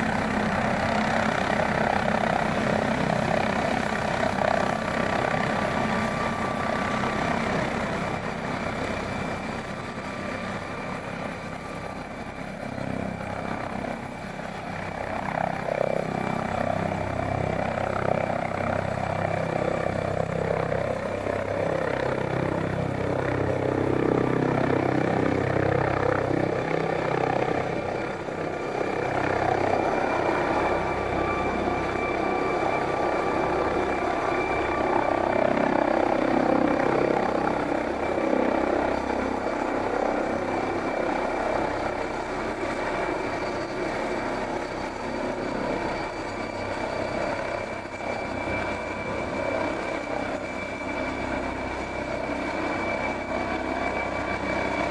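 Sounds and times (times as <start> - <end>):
helicopter rotor noise: 0.0 - 54.9
helicopter turbine whine: 0.0 - 54.9.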